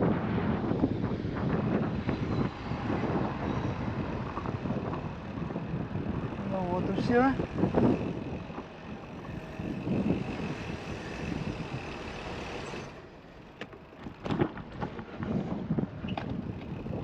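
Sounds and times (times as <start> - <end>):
vehicle running: 0.4 - 17.0.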